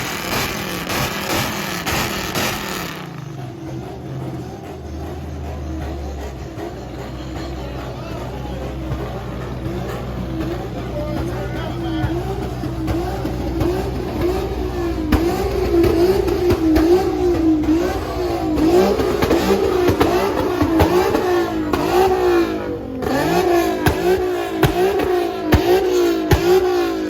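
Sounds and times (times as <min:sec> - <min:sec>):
sharp exhaust pops: 0:00.0 - 0:03.3, 0:08.2 - 0:27.0
car engine revving: 0:00.0 - 0:27.0.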